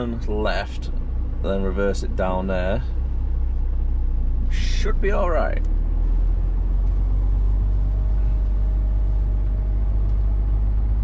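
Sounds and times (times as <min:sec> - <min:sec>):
lorry diesel engine droning: 0:00.0 - 0:11.0.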